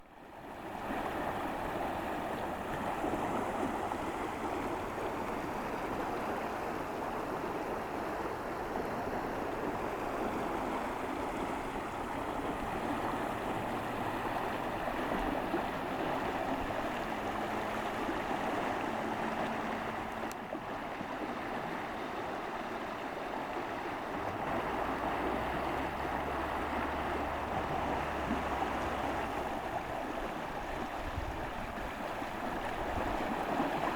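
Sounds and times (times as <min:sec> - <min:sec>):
river rushing: 0:00.1 - 0:33.9.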